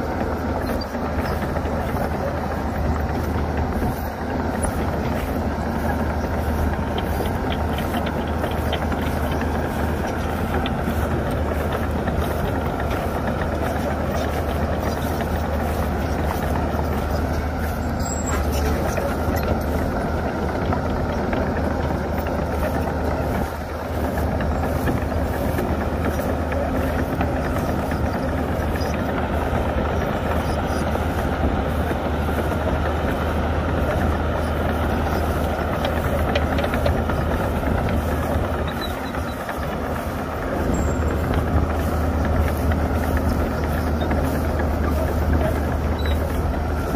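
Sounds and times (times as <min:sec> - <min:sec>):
diesel engine humming: 0:00.0 - 0:46.9.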